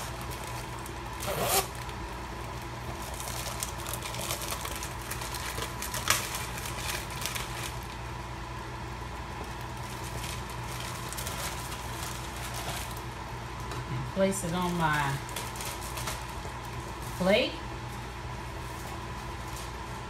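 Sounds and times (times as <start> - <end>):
plastic packaging crinkling: 0.0 - 8.2, 9.2 - 13.7, 14.6 - 17.3, 17.9 - 20.0
steady low hum: 0.0 - 20.0.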